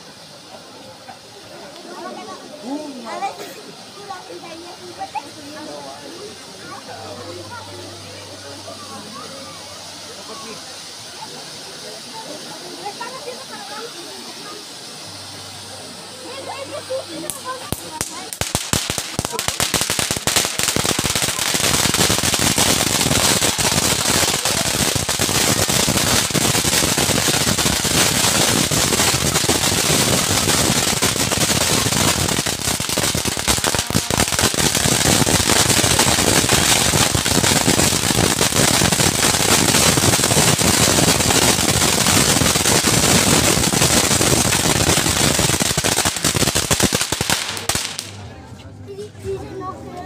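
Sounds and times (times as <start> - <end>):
fireworks hissing: 0.0 - 48.3
fireworks crackling and popping: 0.0 - 48.4.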